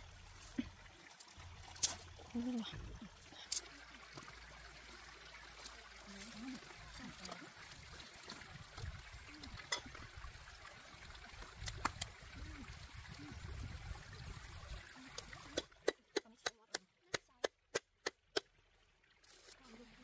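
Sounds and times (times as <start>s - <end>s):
water trickling: 0.0s - 17.4s, 18.2s - 20.0s.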